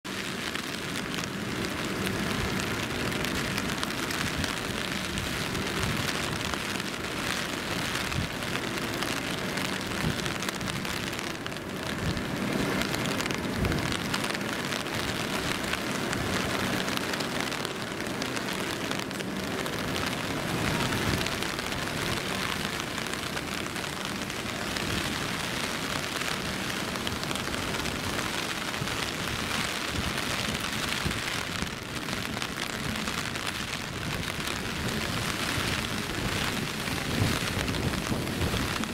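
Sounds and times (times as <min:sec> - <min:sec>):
low rumble of traffic: 0:00.0 - 0:38.9
steady heavy rain on street: 0:00.0 - 0:38.9.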